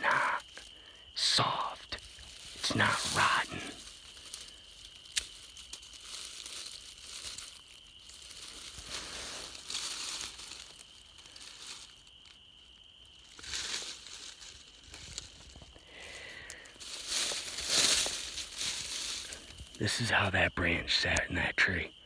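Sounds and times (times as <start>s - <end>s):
branch rustling over dry leaves: 1.9s - 19.8s.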